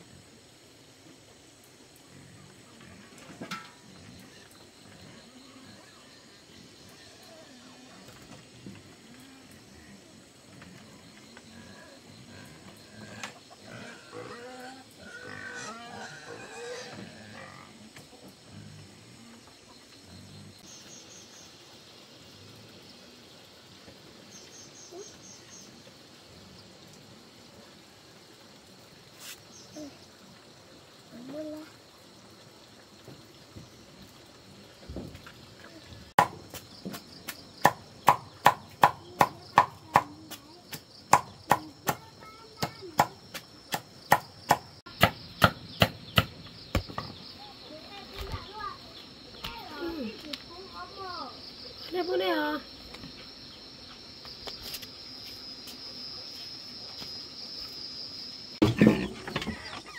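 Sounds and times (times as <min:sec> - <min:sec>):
steady outdoor hiss: 0:00.0 - 0:59.9.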